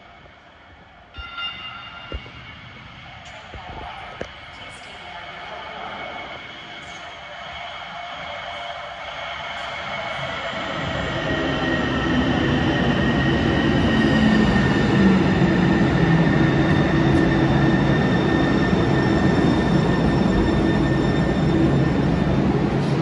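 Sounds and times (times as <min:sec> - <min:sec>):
light rail train rumble: 0:00.0 - 0:23.0.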